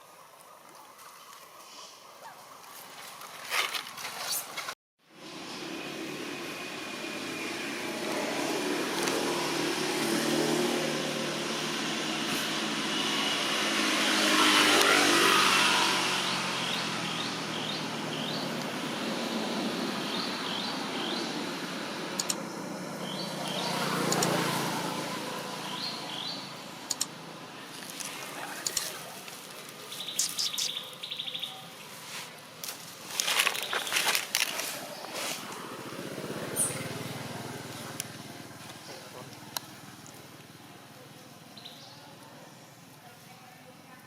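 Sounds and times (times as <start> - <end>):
vehicles passing by: 3.1 - 44.0.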